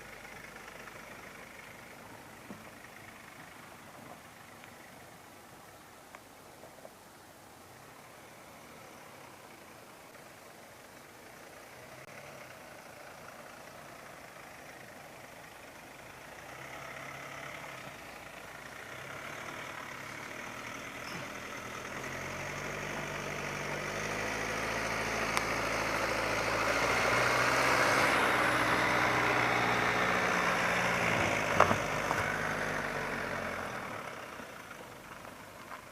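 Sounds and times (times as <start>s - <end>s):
diesel van engine: 0.0s - 35.9s.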